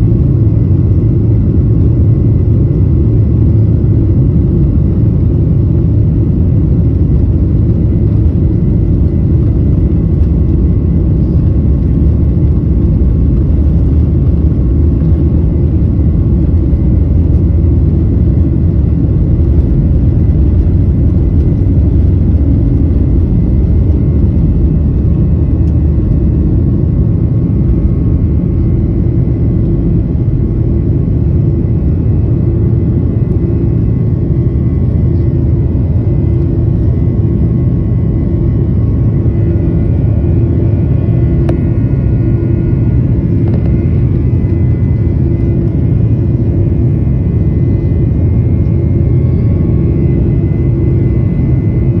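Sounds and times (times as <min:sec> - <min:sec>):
faint high engine whine: 0:00.0 - 0:52.0
jet engines rumbling in cabin: 0:00.0 - 0:52.0.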